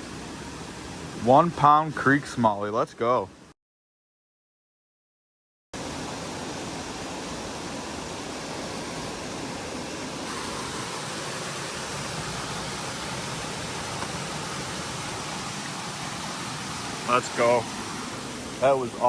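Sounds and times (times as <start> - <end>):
creek water rushing: 0.0 - 3.3, 5.8 - 19.0.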